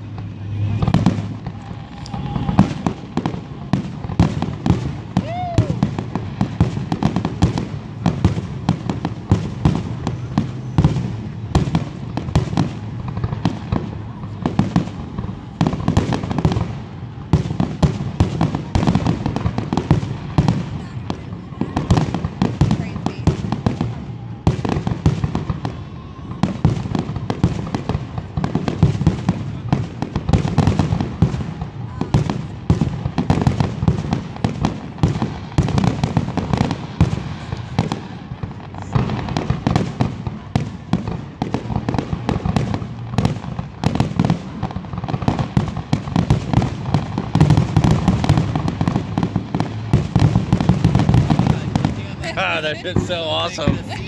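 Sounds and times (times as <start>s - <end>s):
firework crackles: 0.0s - 54.0s
fireworks bursting: 0.0s - 54.0s.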